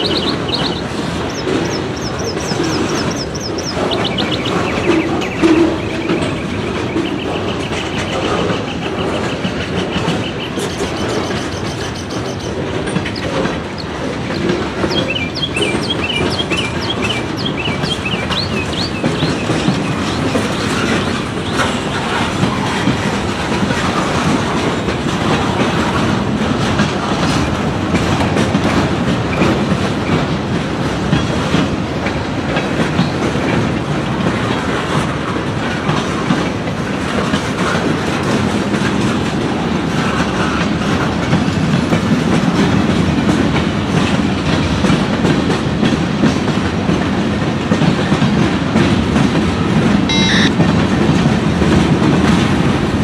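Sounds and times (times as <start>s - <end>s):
train wheels clattering over rails: 0.0s - 53.0s.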